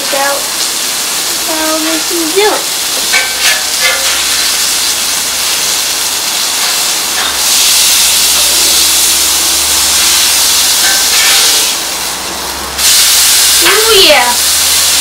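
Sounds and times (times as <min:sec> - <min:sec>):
burger patty sizzling on griddle: 0:00.0 - 0:15.0.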